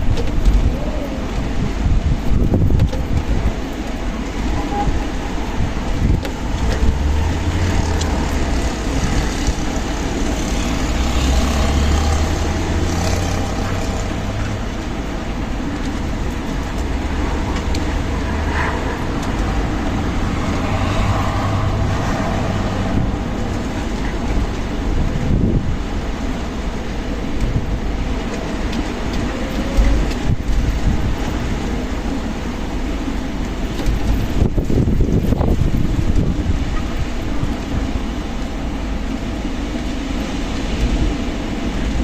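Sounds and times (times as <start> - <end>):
strong wind buffeting microphone: 0.0 - 42.0.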